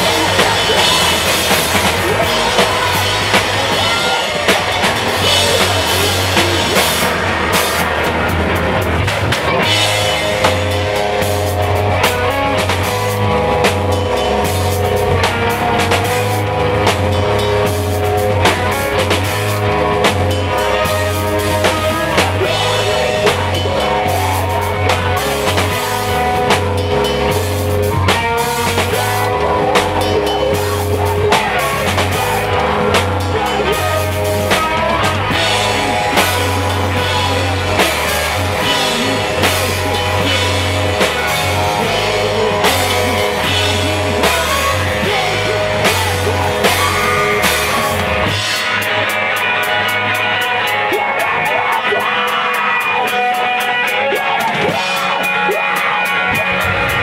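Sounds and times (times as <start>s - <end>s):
drum kit hit hard: 0.0s - 49.2s
electric bass line: 0.0s - 57.0s
electric guitar: 0.0s - 57.0s.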